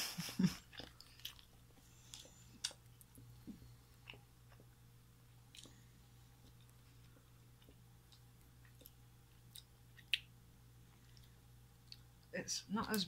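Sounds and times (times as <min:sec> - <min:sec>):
faint chewing: 0:00.5 - 0:12.3.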